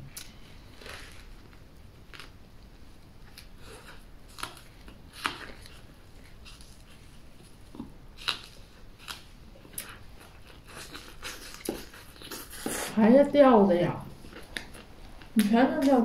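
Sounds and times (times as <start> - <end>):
person chewing flatbread: 0.1 - 13.0, 14.2 - 15.4.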